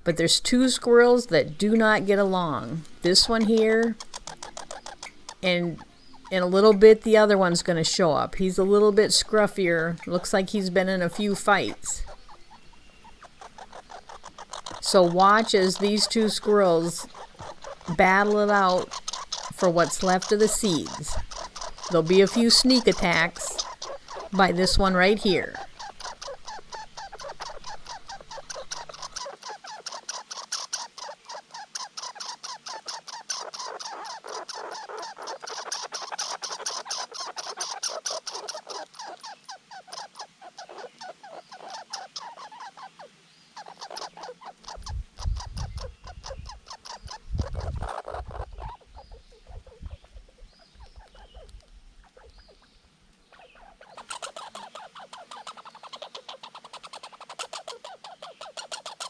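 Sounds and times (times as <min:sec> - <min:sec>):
squirrels chattering: 0:00.0 - 0:59.0.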